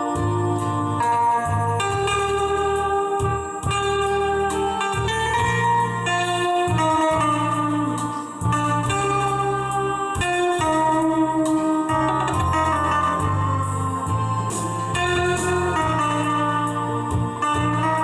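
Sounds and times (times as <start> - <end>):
guitar duet playing hymn: 0.0 - 18.0.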